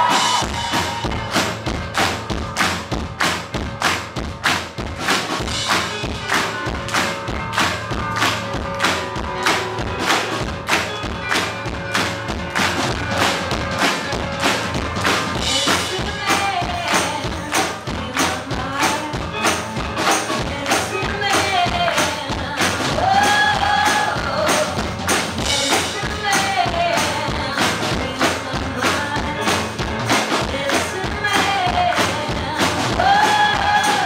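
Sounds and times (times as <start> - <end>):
drum strokes: 0.0 - 34.0
live band playing: 0.0 - 34.0.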